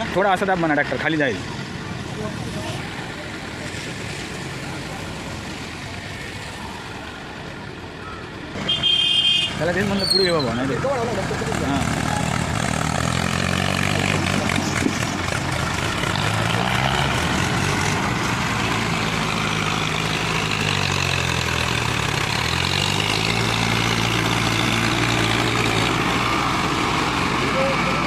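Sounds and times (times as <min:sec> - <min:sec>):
tractor diesel engine under load: 0:00.0 - 0:08.8, 0:09.5 - 0:28.0.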